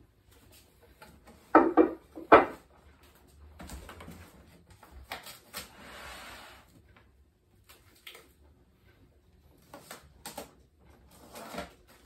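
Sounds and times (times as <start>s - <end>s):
plastic wrap rustling and crinkling: 0.0s - 6.9s, 7.5s - 12.0s.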